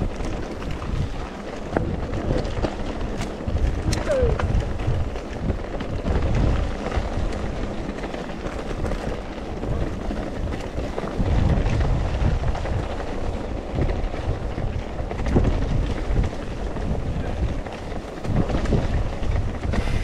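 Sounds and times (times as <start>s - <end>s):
bike knocking and rattling: 0.0s - 20.0s
tyres rolling on gravel: 0.0s - 20.0s
wind rumbling on microphone: 0.0s - 20.0s.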